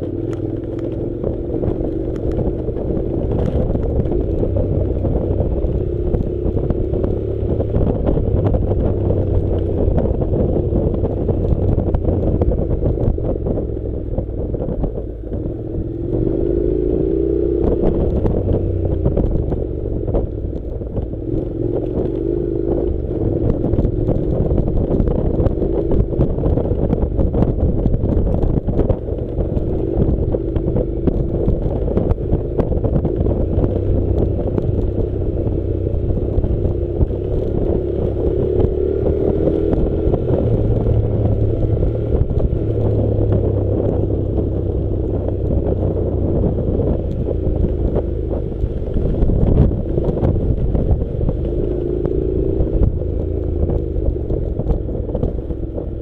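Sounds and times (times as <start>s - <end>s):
low rumble: 0.0s - 56.0s
motorcycle engine revving: 0.0s - 56.0s.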